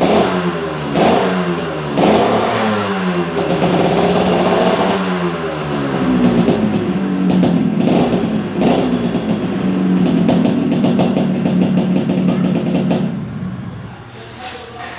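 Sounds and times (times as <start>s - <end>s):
two-stroke motorcycle engine running: 0.0s - 13.8s.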